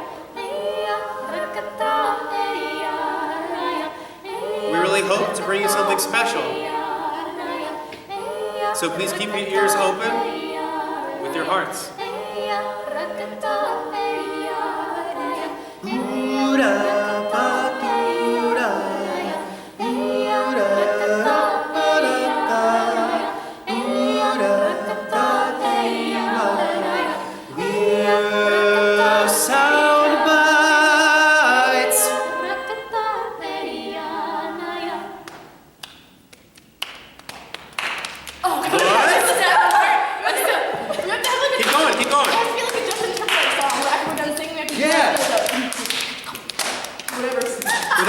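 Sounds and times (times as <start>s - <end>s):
a cappella group singing: 0.0s - 35.7s, 38.4s - 48.0s.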